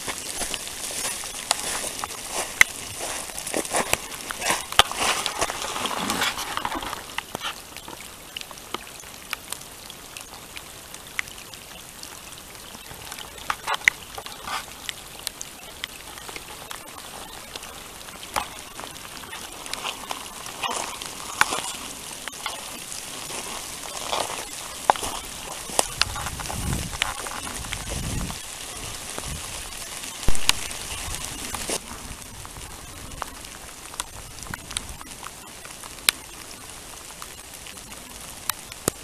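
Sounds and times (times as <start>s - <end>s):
rain hissing: 0.0s - 39.0s
raindrop ticks: 0.0s - 39.0s.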